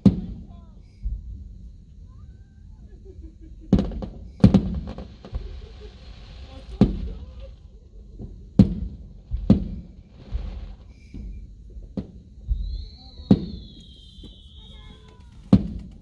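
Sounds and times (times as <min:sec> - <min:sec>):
fireworks bursting with bangs: 0:00.0 - 0:16.0
fireworks crackling hiss: 0:00.0 - 0:16.0.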